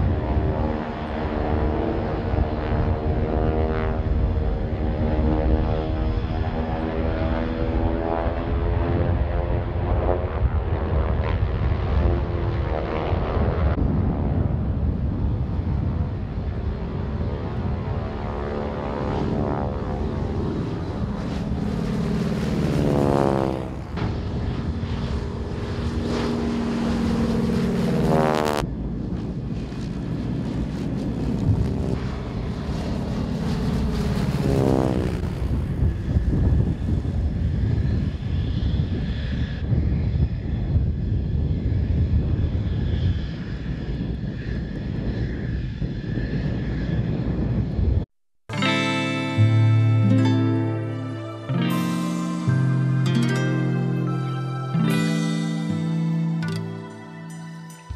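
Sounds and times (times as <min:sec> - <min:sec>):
propeller plane droning overhead: 0:00.0 - 0:57.9.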